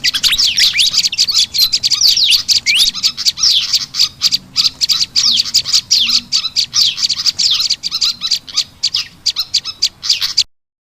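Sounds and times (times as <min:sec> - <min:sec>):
rapid high bird chirps: 0:00.0 - 0:10.5.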